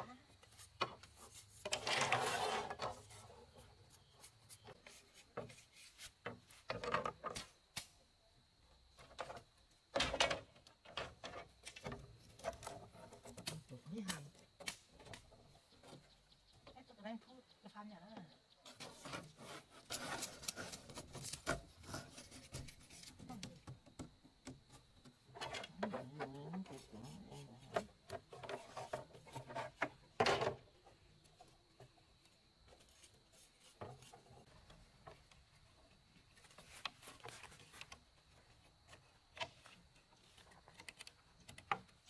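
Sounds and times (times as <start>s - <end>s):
bamboo strips rubbing and knocking: 0.4s - 7.9s, 9.0s - 16.6s, 18.6s - 32.0s, 32.6s - 42.0s.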